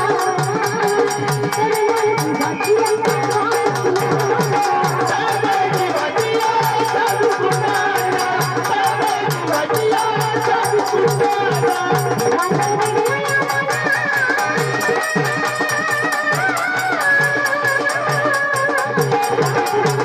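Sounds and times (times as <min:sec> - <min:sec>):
person singing folk song: 0:00.0 - 0:20.0
rhythmic drumbeat: 0:00.0 - 0:20.0.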